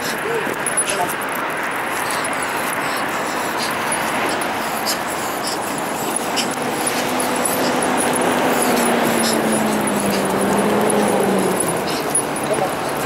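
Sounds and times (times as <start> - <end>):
dog claws ticking on pavement: 0.0 - 13.0
low engine hum: 0.0 - 13.0
traffic noise: 0.0 - 13.0.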